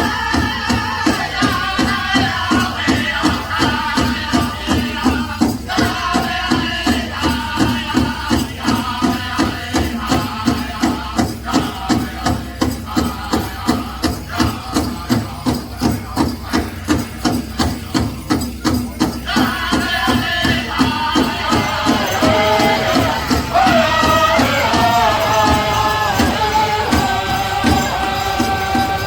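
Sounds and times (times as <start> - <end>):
big drum beating: 0.0 - 29.0
high singing voices: 0.0 - 29.0
jingle cones rattling: 0.0 - 29.0.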